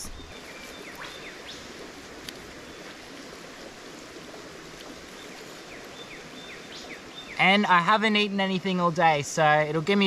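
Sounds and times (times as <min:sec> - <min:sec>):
creek running: 0:00.0 - 0:10.0.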